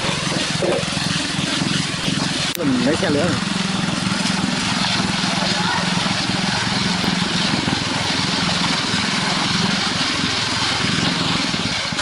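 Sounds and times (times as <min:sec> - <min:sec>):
heavy machinery engine rumbling: 0:00.0 - 0:12.0.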